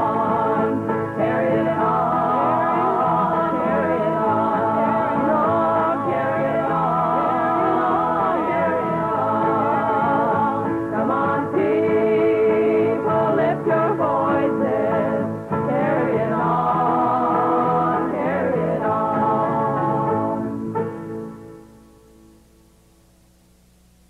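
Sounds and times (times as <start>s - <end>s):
folk song with singing: 0.0s - 23.4s.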